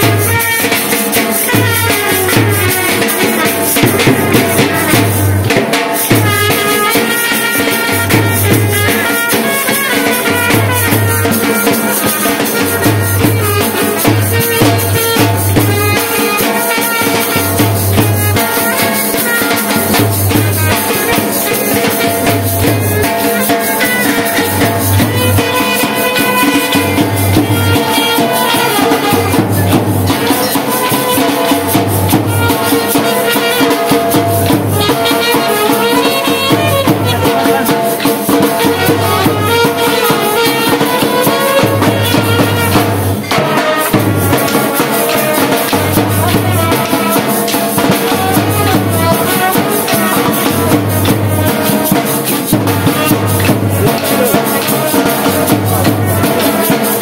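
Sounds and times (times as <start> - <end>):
rattling jingling percussion: 0.0 - 57.0.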